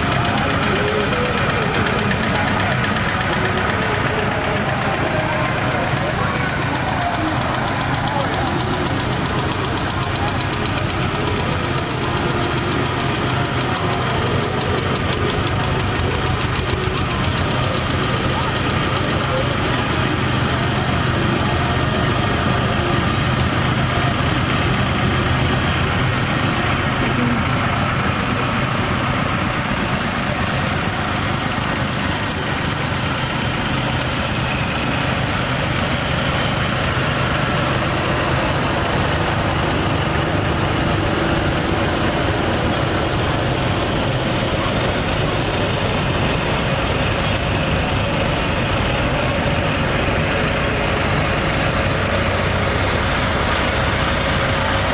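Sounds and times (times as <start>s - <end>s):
tractor engines droning: 0.0s - 54.9s.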